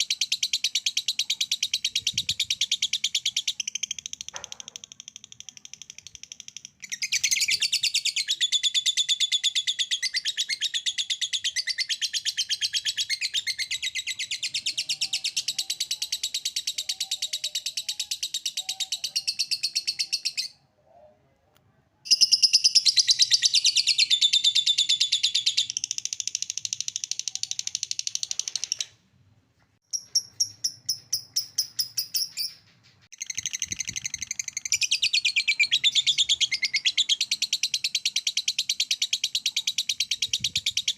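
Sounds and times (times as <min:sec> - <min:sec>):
bird chirps: 0:00.0 - 0:21.0, 0:22.1 - 0:29.0, 0:29.9 - 0:40.9.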